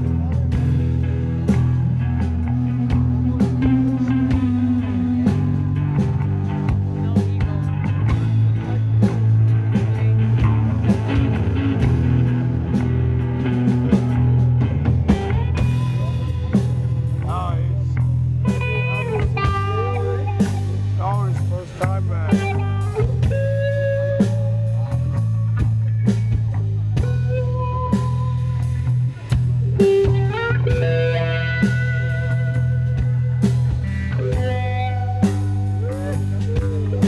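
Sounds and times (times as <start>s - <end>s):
bass line: 0.0s - 37.0s
drum kit beat: 0.0s - 37.0s
electric guitars: 0.0s - 37.0s
wavering lead guitar: 0.0s - 37.0s.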